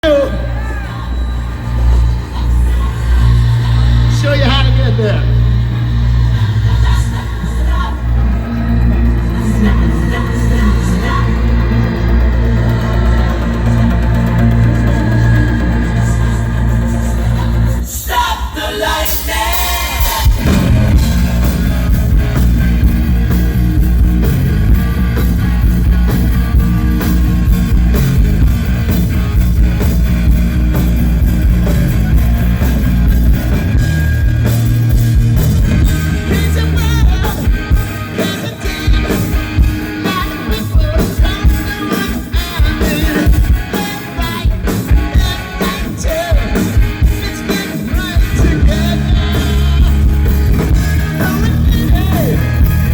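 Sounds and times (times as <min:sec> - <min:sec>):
live hard rock band playing: 0:00.0 - 0:52.9.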